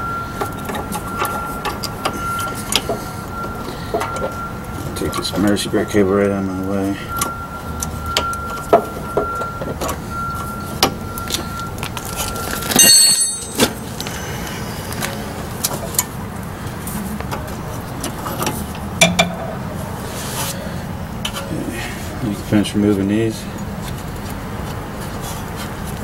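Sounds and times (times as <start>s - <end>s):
faint steady whine: 0.0s - 26.0s.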